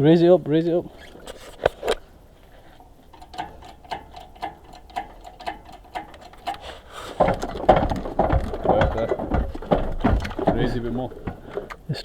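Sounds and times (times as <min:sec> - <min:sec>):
hydraulic crane pump clicking: 0:00.8 - 0:12.0.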